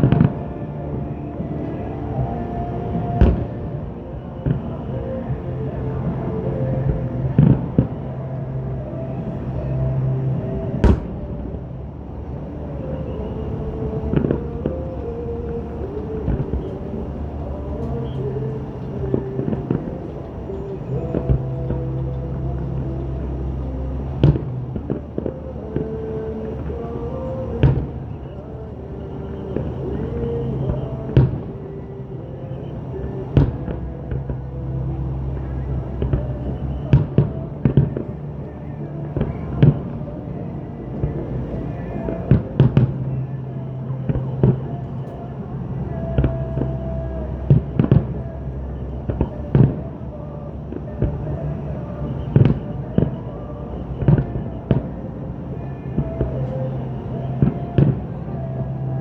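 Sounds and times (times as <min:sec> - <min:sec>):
fireworks bangs: 0:00.0 - 0:50.1, 0:50.8 - 0:58.9
continuous rumble: 0:00.0 - 0:59.0
sustained pitched tones: 0:00.0 - 0:59.0.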